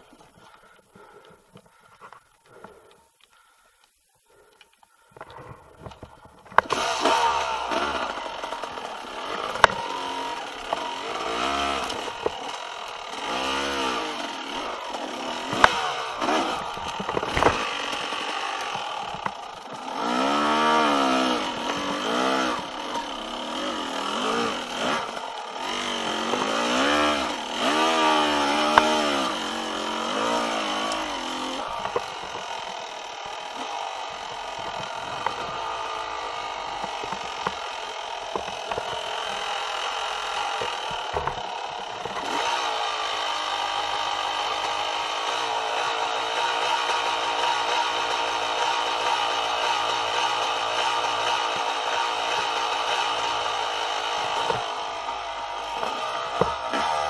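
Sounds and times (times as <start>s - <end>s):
two-stroke engine revving: 6.0s - 57.0s.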